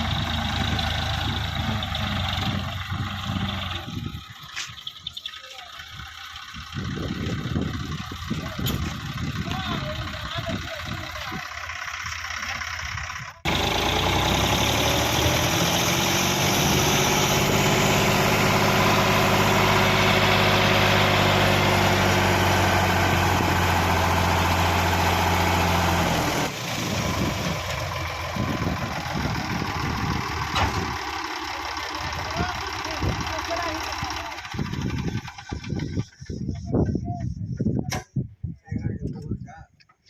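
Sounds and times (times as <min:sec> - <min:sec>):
tractor diesel engine idling: 0:00.0 - 0:37.4
tractor engine at raised revs: 0:00.0 - 0:38.1.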